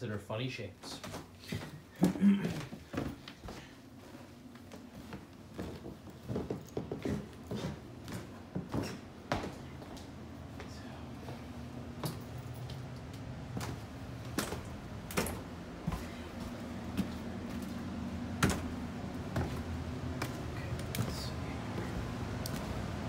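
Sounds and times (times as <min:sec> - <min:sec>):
steady low hum: 0:00.0 - 0:23.0
footsteps going down stairs: 0:00.8 - 0:23.0.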